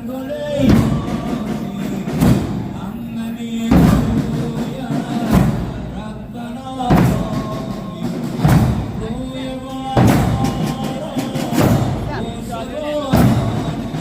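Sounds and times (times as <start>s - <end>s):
people chanting: 0.0s - 14.0s
drum and chains thumping: 0.4s - 14.0s.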